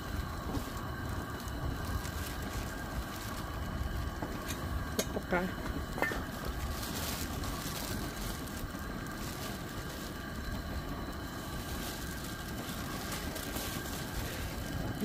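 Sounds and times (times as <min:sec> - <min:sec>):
camp stove burner hissing: 0:00.0 - 0:15.0.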